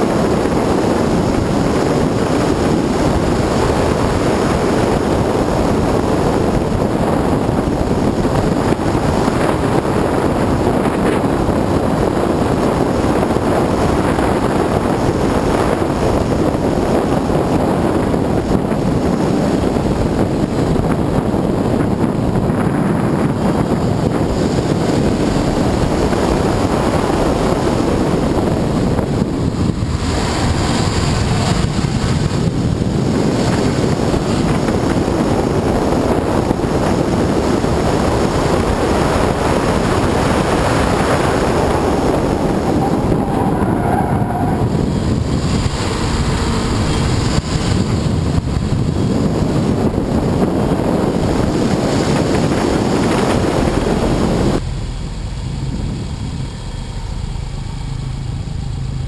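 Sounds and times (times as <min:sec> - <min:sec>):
car engine running: 0:00.0 - 0:59.0
wind buffeting microphone: 0:00.0 - 0:59.0.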